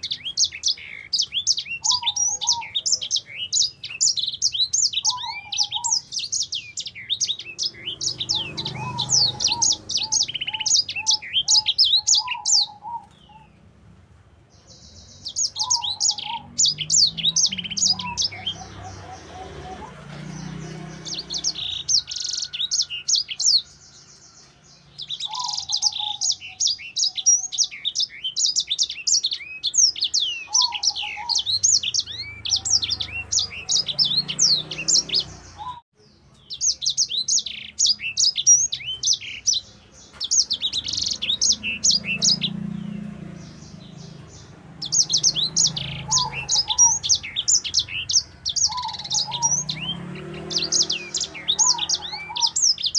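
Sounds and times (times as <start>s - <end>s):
songbird twittering song: 0.0s - 52.9s.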